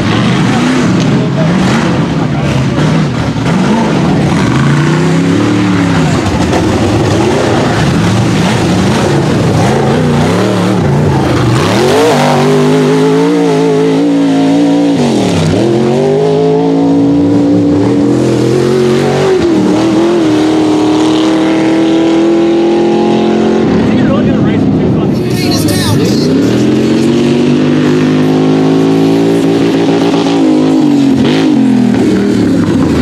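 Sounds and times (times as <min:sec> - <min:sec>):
buggy engines revving hard: 0:00.0 - 0:33.0.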